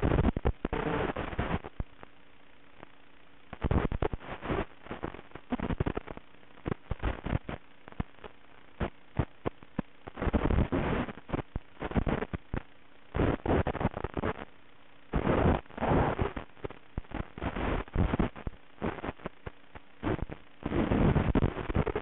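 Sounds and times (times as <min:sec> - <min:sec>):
faint steady hum: 0:00.0 - 0:22.0
radio static crackling and popping: 0:00.0 - 0:22.0.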